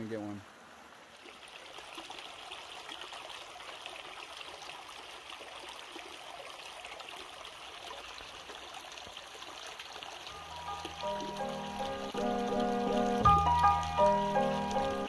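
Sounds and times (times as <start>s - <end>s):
creek water flowing over stones: 0.0s - 15.0s.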